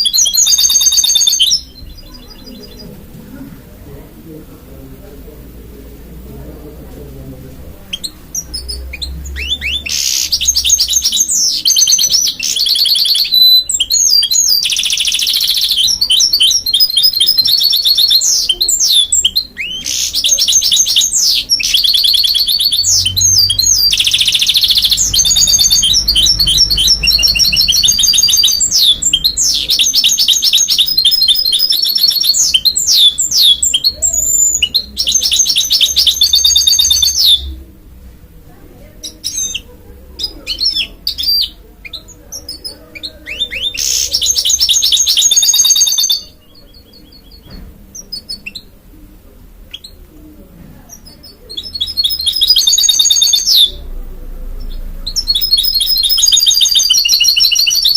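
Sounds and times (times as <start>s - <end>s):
bird warbling song: 0.0s - 2.9s, 7.9s - 37.6s, 39.0s - 48.7s, 50.9s - 53.9s, 54.6s - 57.9s.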